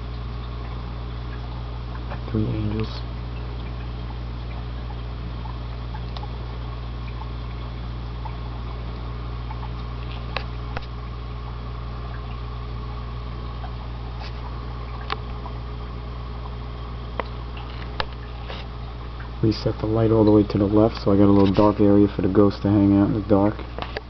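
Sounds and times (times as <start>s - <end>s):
aquarium pump hum: 0.0s - 24.0s
water bubbling and trickling: 0.0s - 24.0s.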